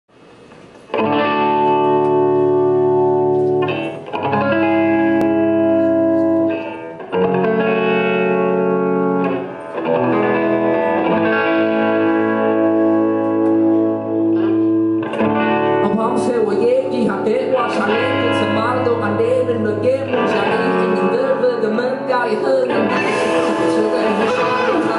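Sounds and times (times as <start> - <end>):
ringing electric guitar chords: 0.9 - 24.9.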